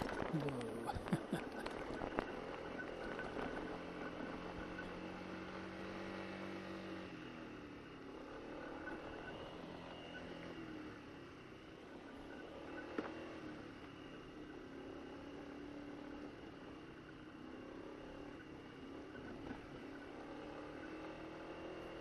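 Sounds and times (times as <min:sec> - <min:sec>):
scooter engine running: 0:00.0 - 0:22.0
tyres on unpaved track: 0:00.0 - 0:22.0.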